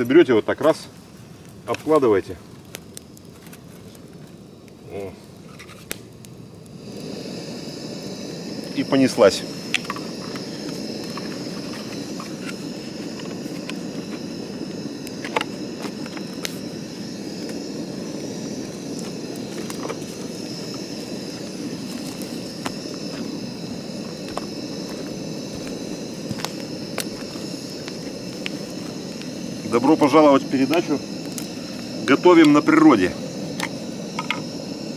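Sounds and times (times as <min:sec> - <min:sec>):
gas burner hissing: 0:00.0 - 0:34.9.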